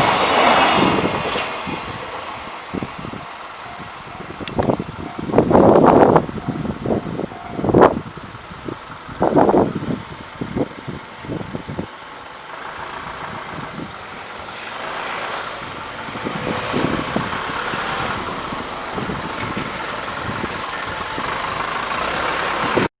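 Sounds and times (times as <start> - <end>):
vehicle hiss and rumble: 0.0 - 22.9.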